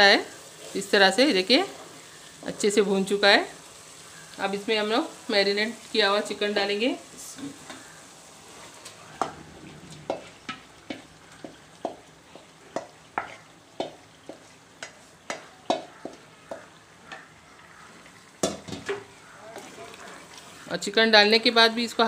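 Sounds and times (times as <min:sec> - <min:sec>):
oil sizzling in a pot: 0:00.0 - 0:22.0.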